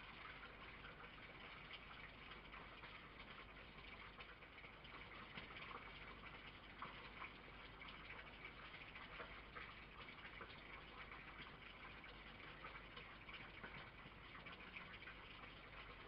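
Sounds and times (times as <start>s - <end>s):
faint steady hiss: 0.0s - 16.0s
light ticks and crackles: 0.0s - 16.0s.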